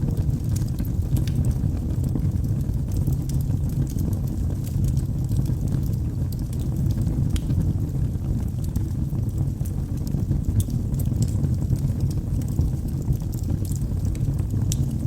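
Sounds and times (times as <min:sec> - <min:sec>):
burning logs crackling and popping: 0:00.0 - 0:15.0
low rush of flames: 0:00.0 - 0:15.0.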